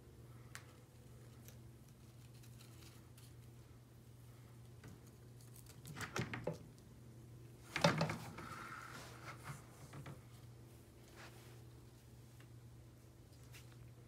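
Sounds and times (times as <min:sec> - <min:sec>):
steady low hum: 0:00.0 - 0:05.8, 0:06.5 - 0:14.0.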